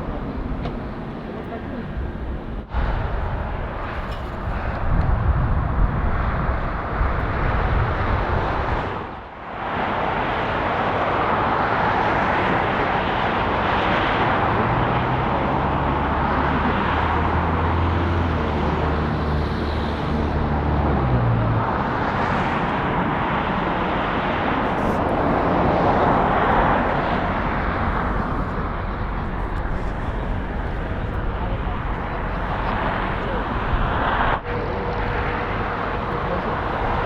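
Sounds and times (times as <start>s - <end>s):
jet engine rushing: 0.0s - 37.0s.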